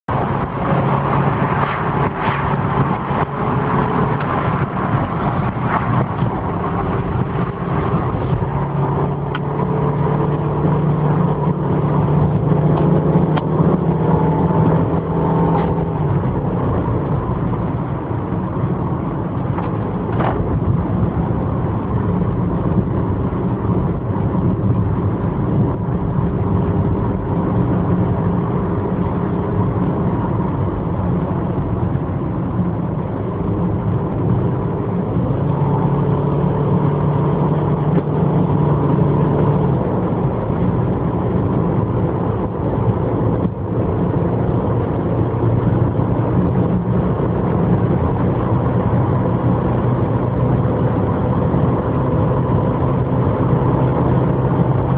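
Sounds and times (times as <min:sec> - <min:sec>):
car engine driving: 0:00.0 - 0:54.9.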